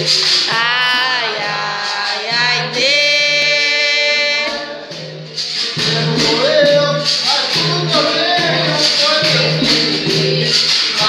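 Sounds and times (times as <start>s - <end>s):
hand drum: 0.0s - 11.0s.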